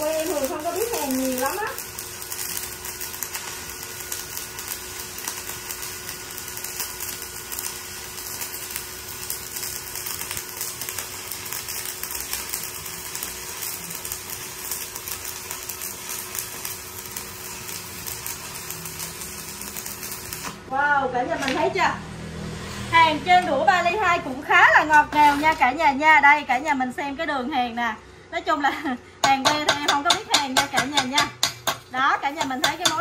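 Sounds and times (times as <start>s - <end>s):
welding arc crackling: 0.0s - 22.0s, 23.0s - 27.2s, 28.5s - 33.0s.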